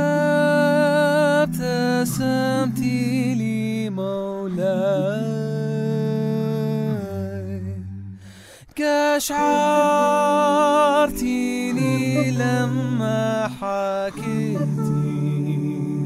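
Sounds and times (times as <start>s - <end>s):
man singing a cappella: 0.0s - 16.0s.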